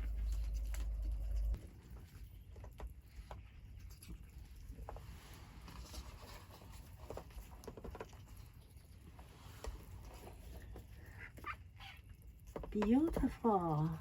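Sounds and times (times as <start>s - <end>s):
chickens pecking and scratching: 0.0s - 14.0s.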